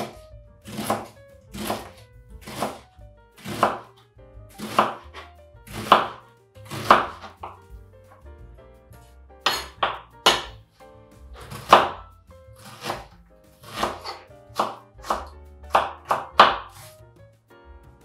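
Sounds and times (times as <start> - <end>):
knife chopping on cutting board: 0.0 - 8.3, 9.0 - 17.0
quiet background music: 0.0 - 18.0.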